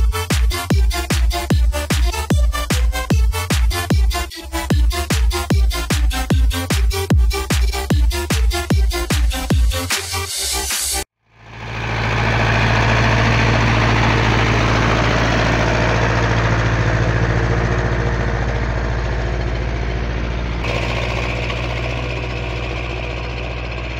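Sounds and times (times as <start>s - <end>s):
tractor diesel engine under load: 0.0s - 9.9s, 11.3s - 23.9s.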